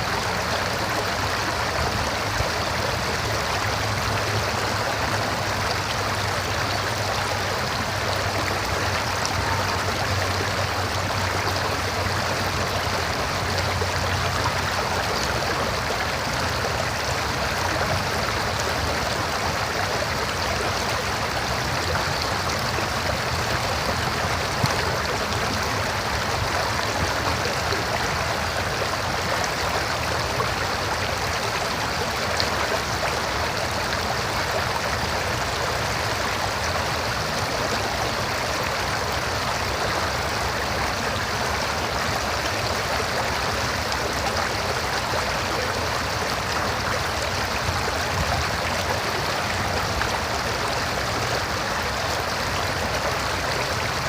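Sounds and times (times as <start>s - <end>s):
river water flowing over rocks: 0.0s - 54.0s.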